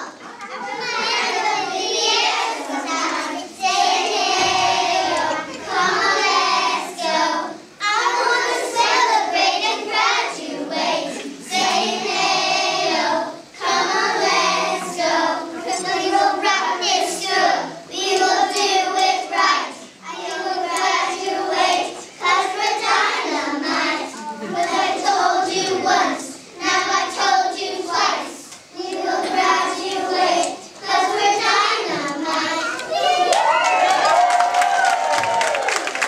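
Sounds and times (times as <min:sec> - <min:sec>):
children singing in unison: 0:00.0 - 0:33.7.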